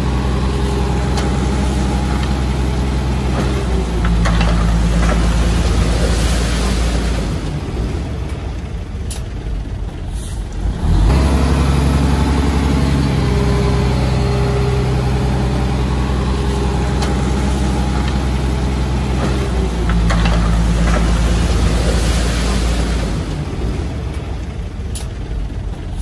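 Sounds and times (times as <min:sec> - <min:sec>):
heavy diesel engine under load: 0:00.0 - 0:26.0.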